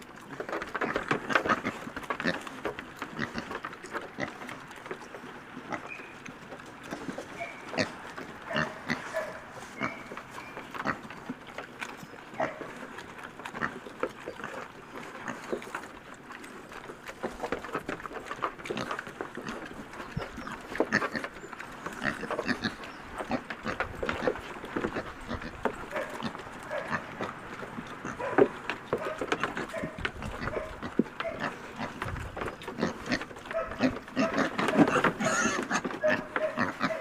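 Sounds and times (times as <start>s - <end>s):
pigs chewing and crunching: 0.0s - 37.0s.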